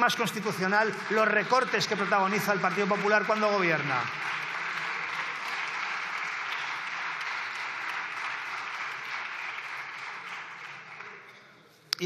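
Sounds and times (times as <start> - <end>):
crowd applauding: 0.0 - 11.4.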